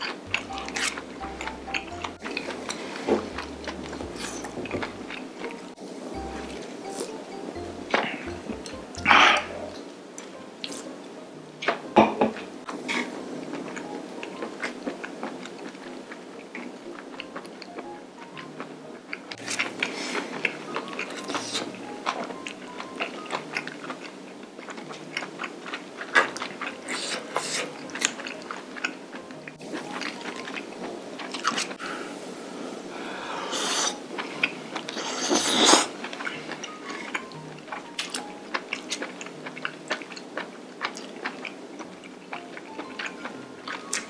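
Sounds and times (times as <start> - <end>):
person chewing food: 0.0 - 11.0, 11.6 - 31.8, 33.4 - 44.0
light background music: 0.0 - 44.0.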